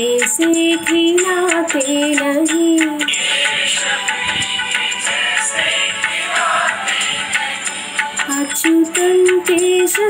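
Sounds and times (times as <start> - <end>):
devotional instrumental music: 0.3 - 10.0.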